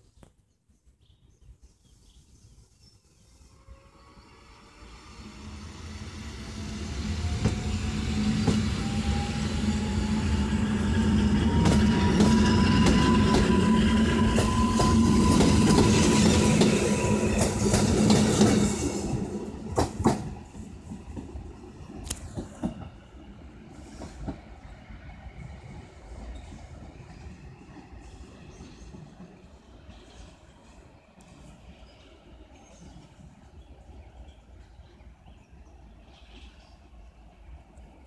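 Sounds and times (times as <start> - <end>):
electric train hum: 3.1 - 38.0.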